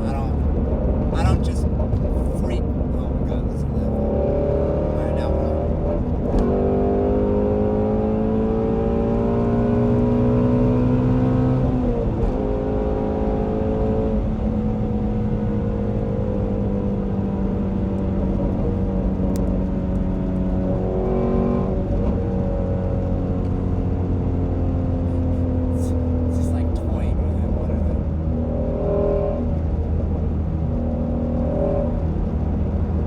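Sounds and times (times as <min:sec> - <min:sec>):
car engine running with gear changes: 0:00.0 - 0:33.0.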